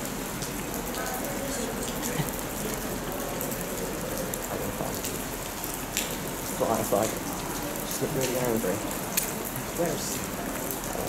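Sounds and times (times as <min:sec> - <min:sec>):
steady rain: 0:00.0 - 0:11.0
drips ticking: 0:00.3 - 0:10.9.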